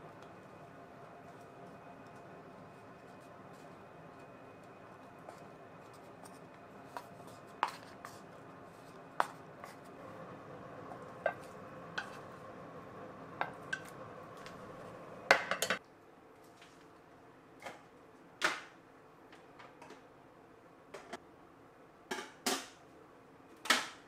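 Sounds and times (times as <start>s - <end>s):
faint steady hum: 0.0s - 22.1s.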